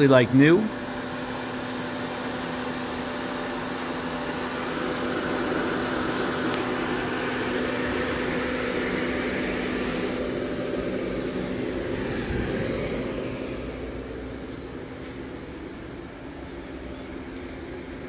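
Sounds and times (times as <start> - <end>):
air conditioning and fans humming: 0.0 - 18.0.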